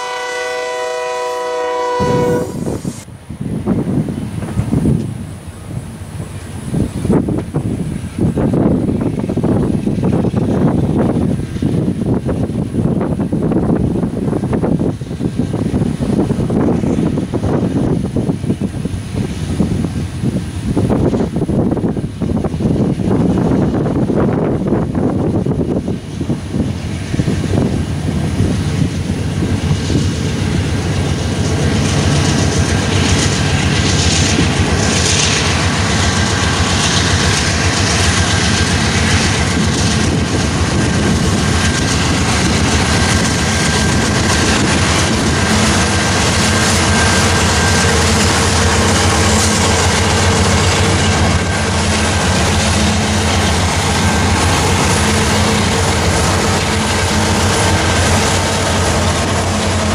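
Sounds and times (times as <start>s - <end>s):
diesel locomotive engines: 0.0s - 59.9s
train wheels rumbling on rails: 0.0s - 59.9s.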